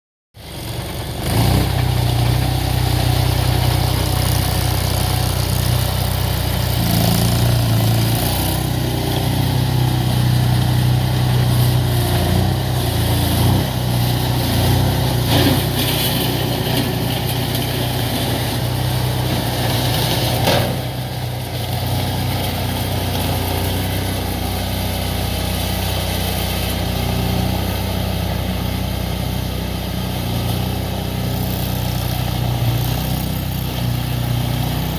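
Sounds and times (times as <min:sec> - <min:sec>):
engine revving: 0:00.5 - 0:34.9.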